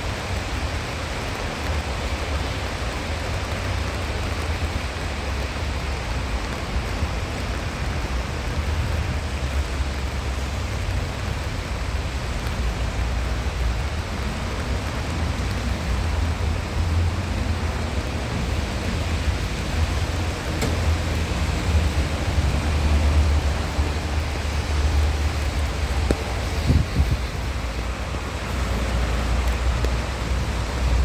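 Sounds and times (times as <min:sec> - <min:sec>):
rain falling on street: 0:00.0 - 0:31.0.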